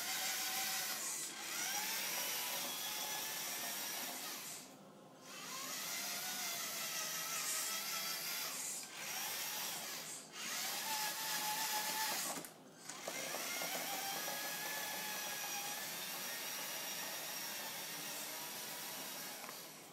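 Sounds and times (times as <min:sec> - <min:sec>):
electric motor and gear whine: 0:00.0 - 0:04.7, 0:05.3 - 0:19.9.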